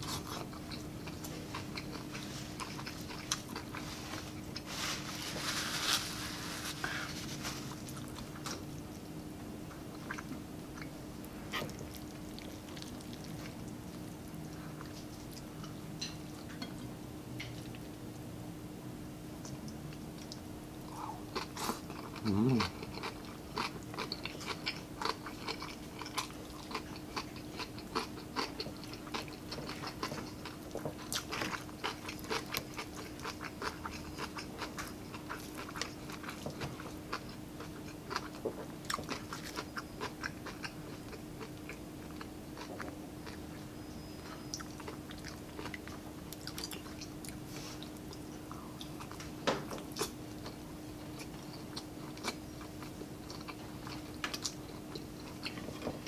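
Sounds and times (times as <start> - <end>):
chewing crispy fried food: 0.0 - 16.8, 19.4 - 56.0
faint steady hum: 0.0 - 56.0.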